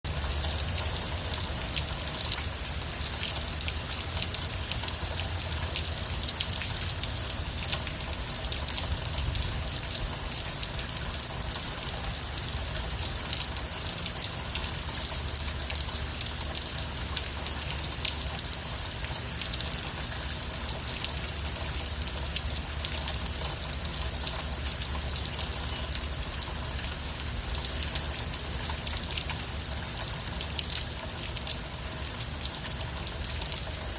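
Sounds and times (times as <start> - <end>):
gentle rain patter: 0.0 - 33.9.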